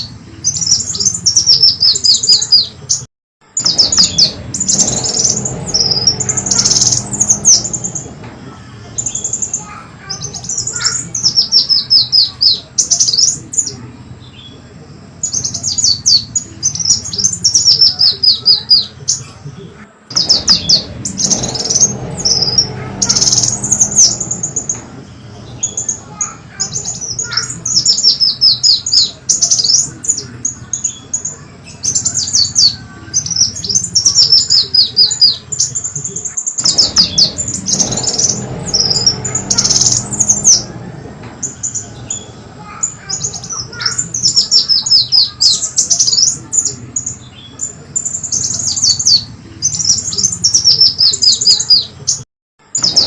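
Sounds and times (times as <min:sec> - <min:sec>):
sunbird high-pitched twittering: 0:00.0 - 0:19.3, 0:20.1 - 0:53.0
low hum: 0:03.4 - 0:18.2, 0:18.9 - 0:34.8, 0:35.4 - 0:51.0.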